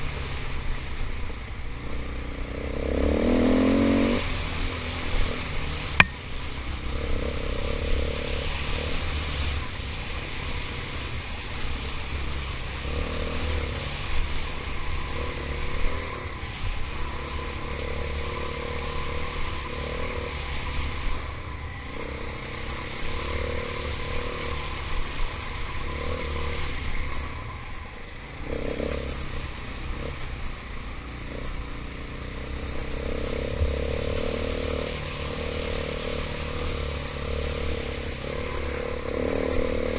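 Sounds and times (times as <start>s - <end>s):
dirt bike engine revving: 1.8s - 27.4s, 28.3s - 39.9s.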